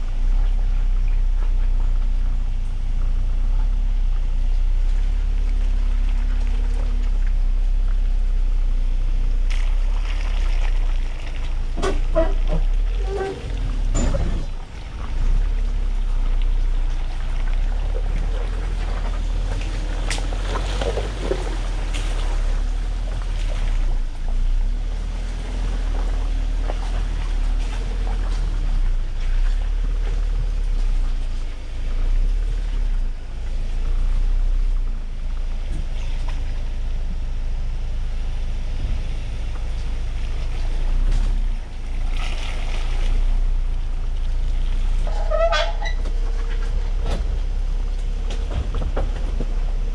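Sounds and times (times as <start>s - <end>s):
truck engine rumble: 0.0s - 49.9s.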